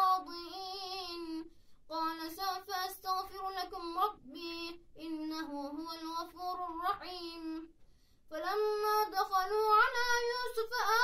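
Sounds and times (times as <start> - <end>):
boy chanting melodic recitation: 0.0 - 7.7, 8.3 - 11.0.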